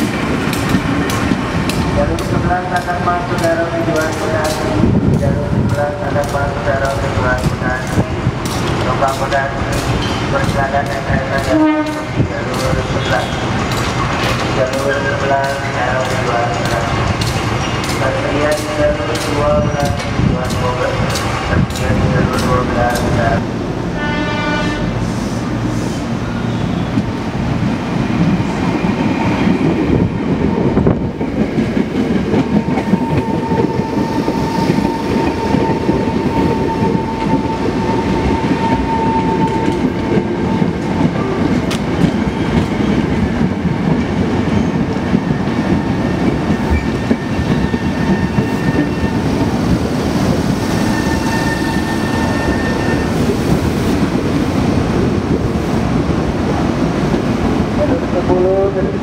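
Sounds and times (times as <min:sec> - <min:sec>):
train wheels clattering over rails: 0:00.0 - 0:23.4, 0:26.9 - 0:57.9.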